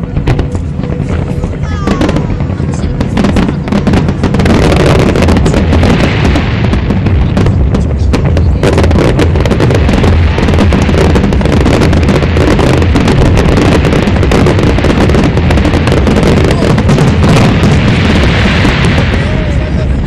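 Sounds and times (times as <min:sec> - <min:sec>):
fireworks bursts and crackles: 0:00.0 - 0:20.0
heavy low rumble: 0:00.0 - 0:20.0.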